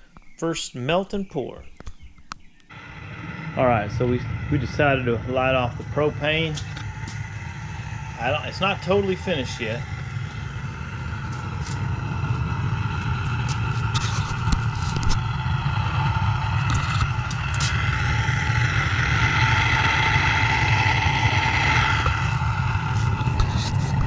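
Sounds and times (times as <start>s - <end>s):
furnace burner roaring: 2.7s - 24.0s.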